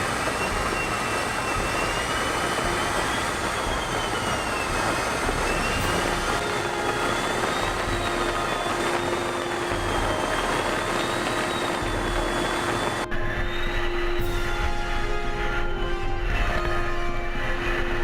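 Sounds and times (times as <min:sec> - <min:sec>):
jet engine running: 0:00.0 - 0:18.0.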